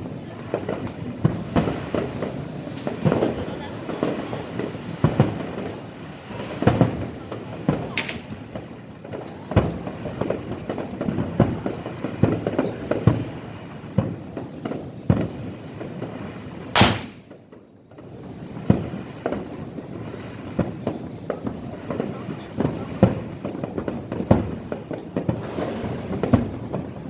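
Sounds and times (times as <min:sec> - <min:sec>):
fireworks bursts and bangs: 0:00.0 - 0:27.0.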